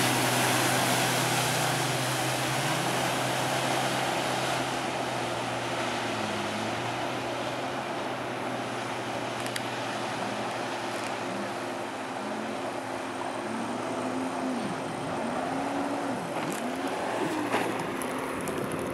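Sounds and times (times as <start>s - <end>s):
jet ski engine revving: 0.0s - 18.9s.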